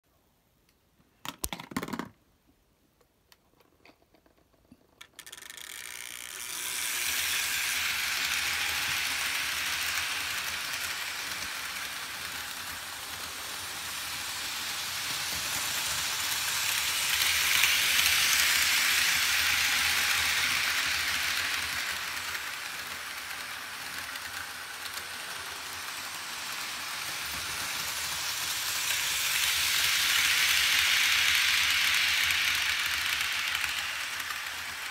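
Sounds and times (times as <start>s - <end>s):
model train rattling hiss: 5.1s - 34.9s.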